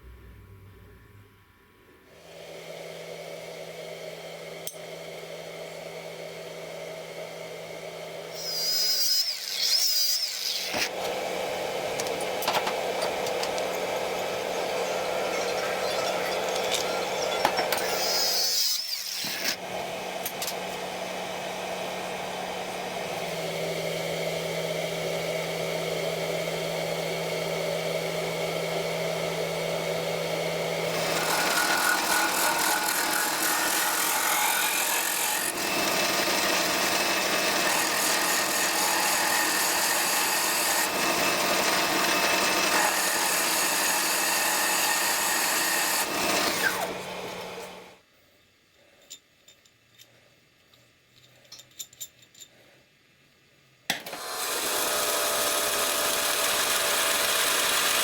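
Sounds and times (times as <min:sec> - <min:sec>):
electric power tool motor hum: 0:02.2 - 0:48.0, 0:54.0 - 0:58.0.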